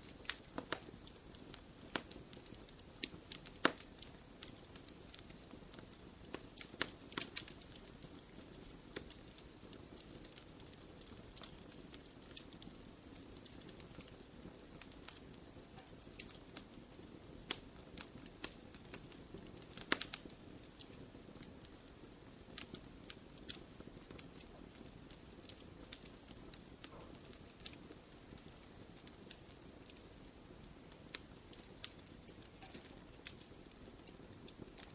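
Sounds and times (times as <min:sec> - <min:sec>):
fire low rumble: 0:00.0 - 0:34.9
fireplace fire crackling and popping: 0:00.0 - 0:34.9.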